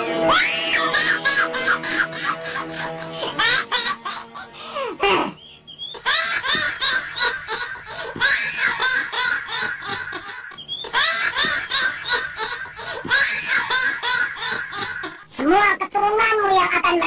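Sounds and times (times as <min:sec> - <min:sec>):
witch cackling laugh: 0:00.1 - 0:15.3.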